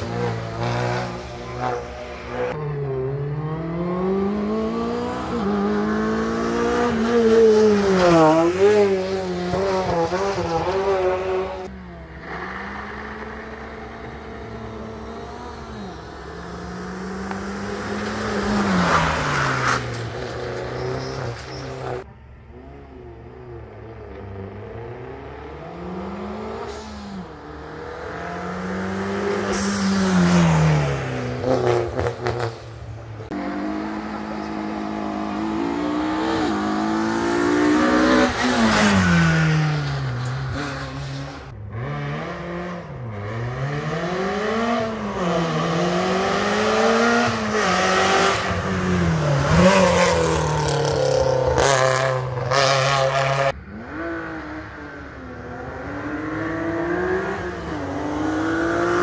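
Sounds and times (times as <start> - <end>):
rally car engines accelerating: 0.0 - 59.0.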